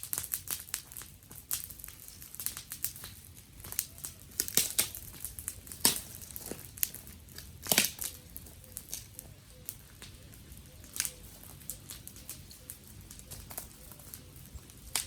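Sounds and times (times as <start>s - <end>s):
dry twigs crackling and snapping: 0.0s - 15.0s.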